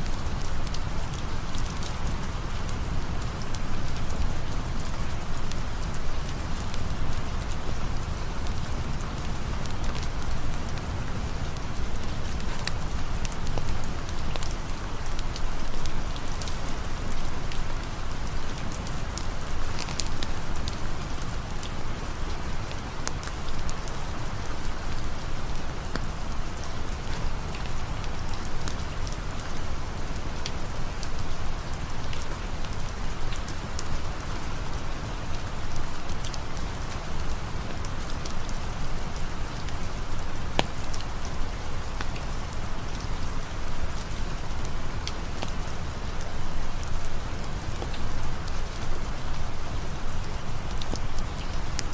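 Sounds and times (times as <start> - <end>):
campfire crackling faintly: 0.0 - 51.9
steady rain falling: 0.0 - 51.9.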